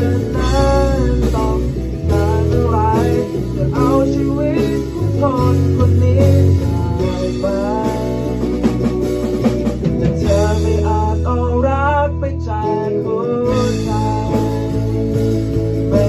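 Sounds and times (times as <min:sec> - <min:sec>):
bass guitar: 0:00.0 - 0:16.0
drum kit: 0:00.0 - 0:16.0
electric guitars: 0:00.0 - 0:16.0
man singing: 0:00.0 - 0:16.0.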